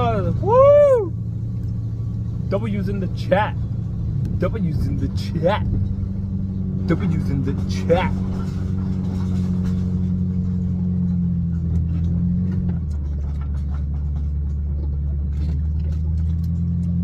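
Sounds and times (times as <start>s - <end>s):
car engine hum from cabin: 0.0s - 17.0s.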